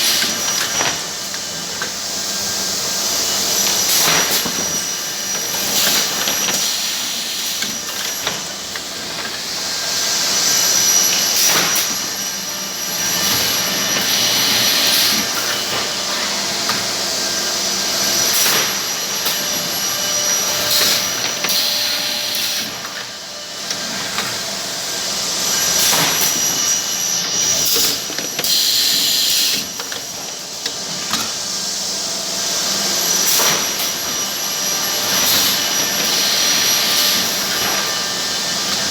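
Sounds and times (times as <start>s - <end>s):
machine whine and air rush: 0.0s - 38.9s.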